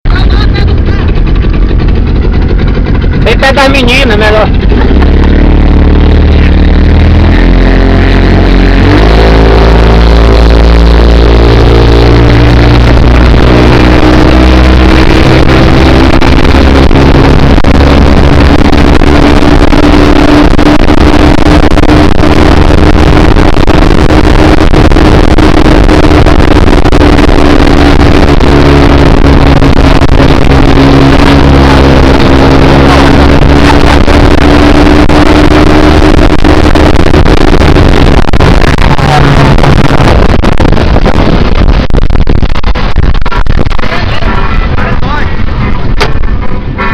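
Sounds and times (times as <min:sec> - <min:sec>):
rush of noise: 0:00.0 - 0:46.9
speedboat engine revving: 0:00.0 - 0:46.9.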